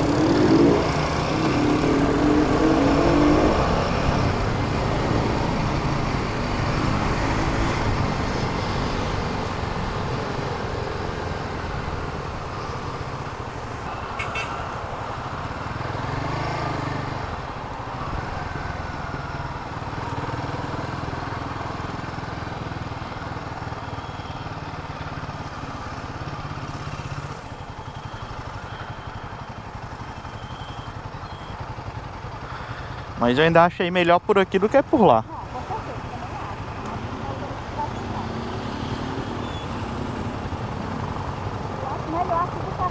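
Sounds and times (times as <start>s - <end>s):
motorcycle engine running: 0.0s - 42.9s
road noise: 0.0s - 42.9s.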